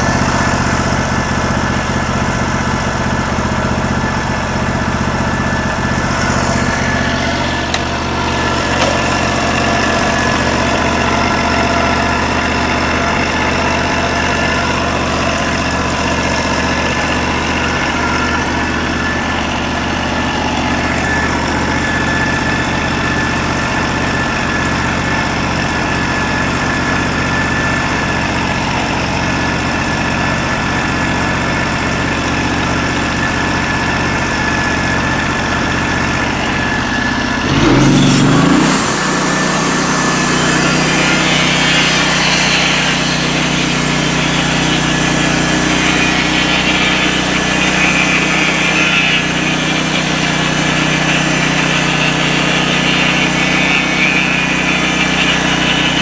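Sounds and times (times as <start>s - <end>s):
sawmill engine idling and revving: 0.0s - 56.0s.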